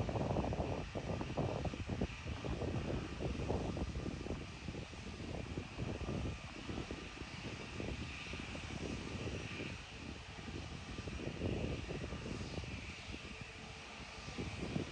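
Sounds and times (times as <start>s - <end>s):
distant airplane engines whining: 0.0s - 14.9s.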